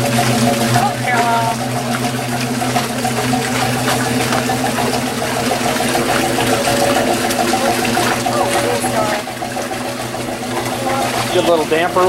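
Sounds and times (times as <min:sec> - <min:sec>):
pulsing machinery hum: 0:00.0 - 0:12.0
rush like running water: 0:00.0 - 0:12.0.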